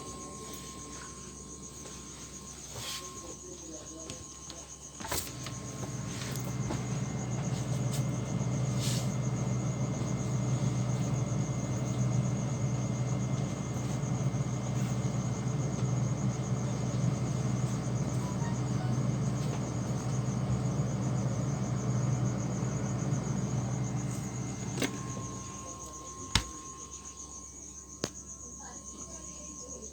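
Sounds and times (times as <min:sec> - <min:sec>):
refrigerator humming: 0:00.0 - 0:29.9.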